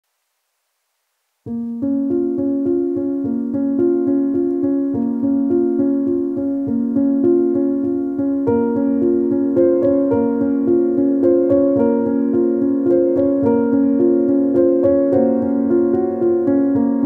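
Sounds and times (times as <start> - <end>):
keyboard repeated notes: 1.8 - 17.0.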